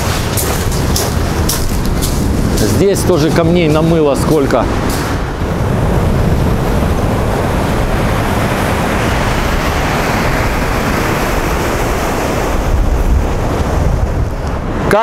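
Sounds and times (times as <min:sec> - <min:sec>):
heavy storm surf rushing: 0:00.0 - 0:15.0
wind buffeting the microphone: 0:00.0 - 0:15.0.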